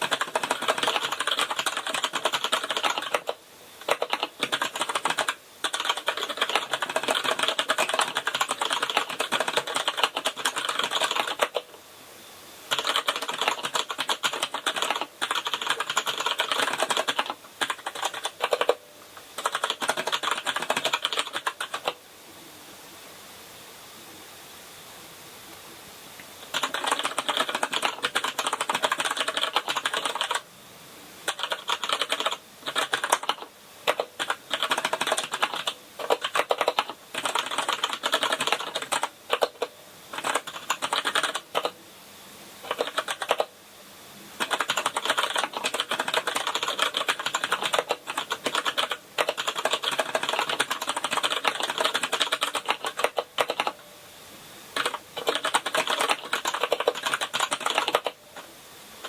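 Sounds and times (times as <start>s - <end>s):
typing on mechanical keyboard: 0.0s - 11.7s, 12.7s - 22.0s, 26.4s - 30.4s, 31.2s - 41.8s, 42.6s - 43.5s, 44.4s - 53.8s, 54.8s - 58.5s.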